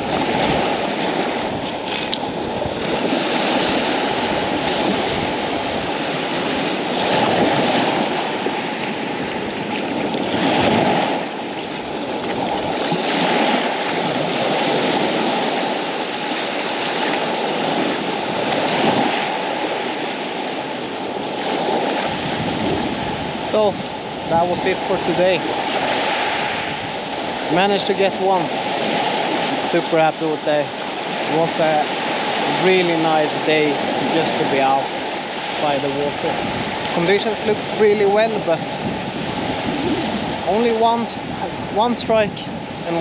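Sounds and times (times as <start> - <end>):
waves washing up pebble shore: 0.0 - 43.0.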